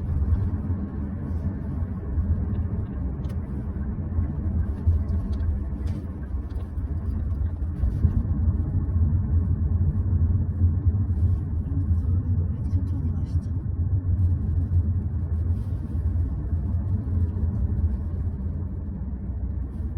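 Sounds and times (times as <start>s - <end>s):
road and tyre rumble in car: 0.0s - 19.9s.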